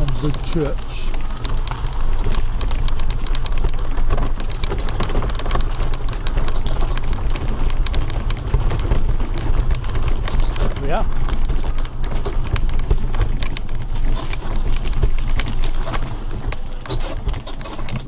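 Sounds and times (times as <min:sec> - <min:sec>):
grit crackling under wheels: 0:00.0 - 0:18.0
mobility scooter motor rumble: 0:00.0 - 0:18.0.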